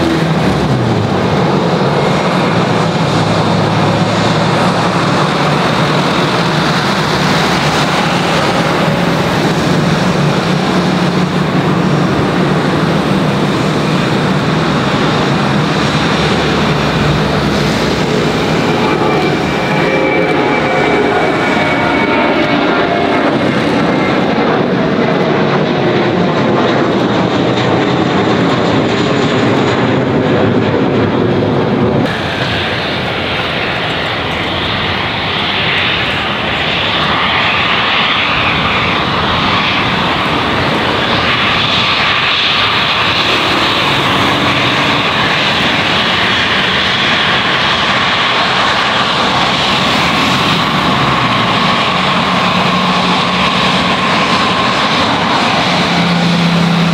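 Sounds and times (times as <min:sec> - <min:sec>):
falling engine whine: 0:00.0 - 0:56.9
jet engines running: 0:00.0 - 0:56.9.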